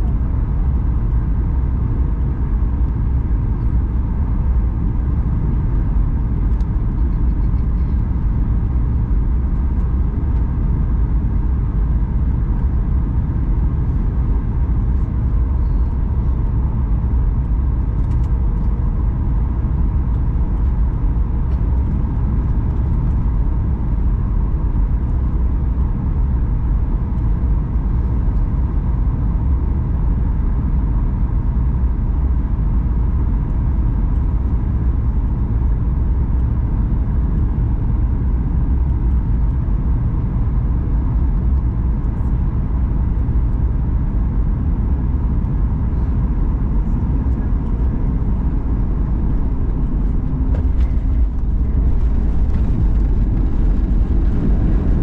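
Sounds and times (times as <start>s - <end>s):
airplane cabin engine rumble: 0.0s - 55.0s
faint steady hum: 0.0s - 55.0s.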